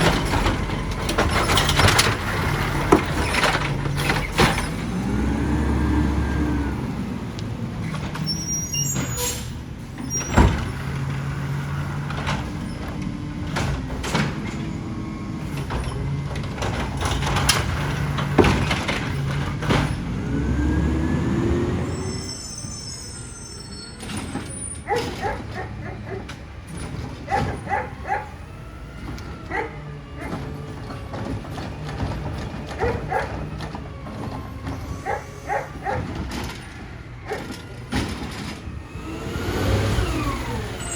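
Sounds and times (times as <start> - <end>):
garbage truck engine revving: 0.0 - 22.8, 24.0 - 40.9
hydraulics working: 0.0 - 40.9.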